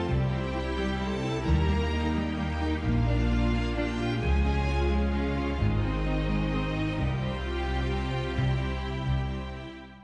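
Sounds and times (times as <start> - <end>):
slow sad background music: 0.0 - 10.0.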